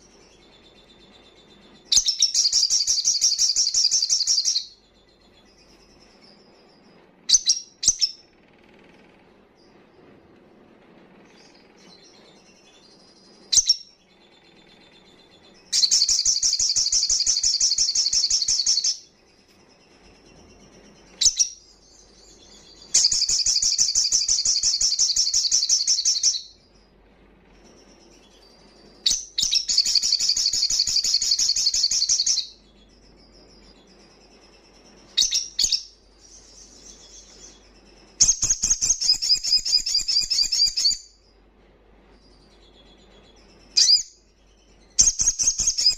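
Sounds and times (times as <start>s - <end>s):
bird chirps: 0.0s - 8.4s, 11.3s - 41.4s, 42.2s - 45.9s.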